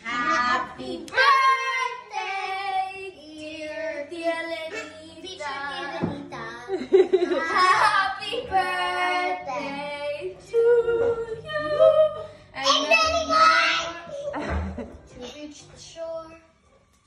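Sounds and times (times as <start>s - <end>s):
girls singing together: 0.0s - 14.7s.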